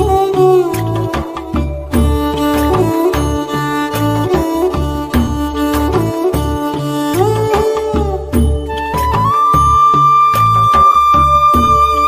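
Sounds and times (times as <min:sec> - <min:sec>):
music with steady beat: 0:00.0 - 0:12.0
sliding flute-like melody: 0:00.0 - 0:12.0.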